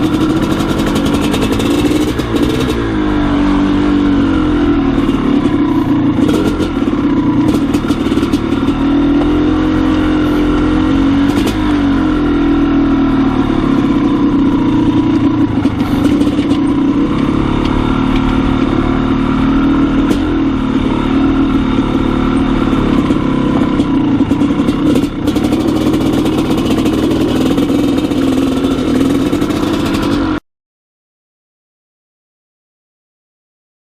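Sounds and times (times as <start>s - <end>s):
dirt bike engine running: 0.0s - 30.4s.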